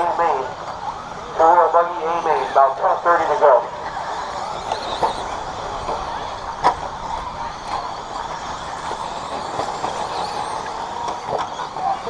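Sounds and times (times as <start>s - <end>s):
radio-controlled truck motor whine: 0.0s - 12.0s
tyre and track noise: 0.0s - 12.0s.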